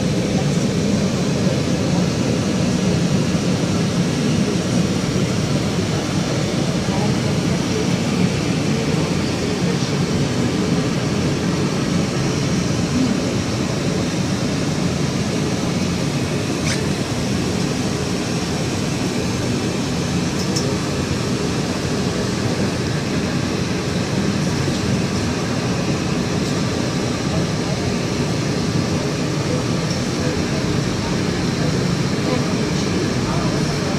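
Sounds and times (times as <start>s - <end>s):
tram rumble and hiss: 0.0s - 33.9s.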